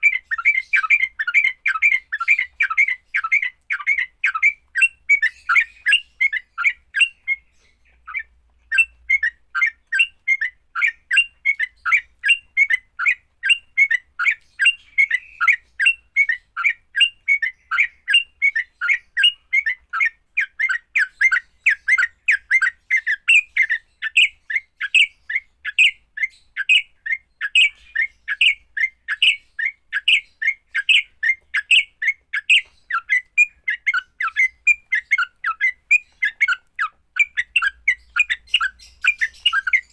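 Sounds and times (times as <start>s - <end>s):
bird harsh chattering calls: 0.0s - 39.9s.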